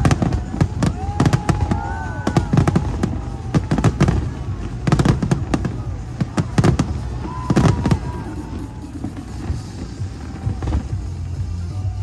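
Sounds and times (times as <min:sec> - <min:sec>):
fireworks booming and cracking: 0:00.0 - 0:12.0.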